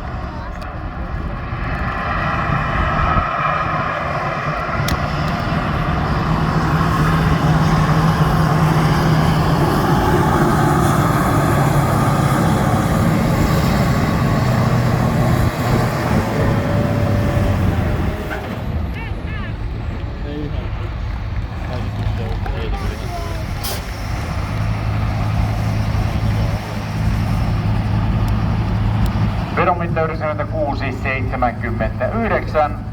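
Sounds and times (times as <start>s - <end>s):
diesel truck engine under load: 0.0s - 32.9s.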